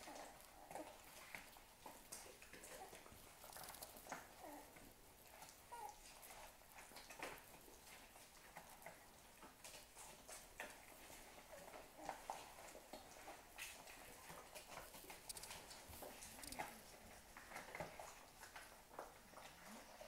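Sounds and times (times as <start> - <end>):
puppies suckling: 0.0 - 20.0.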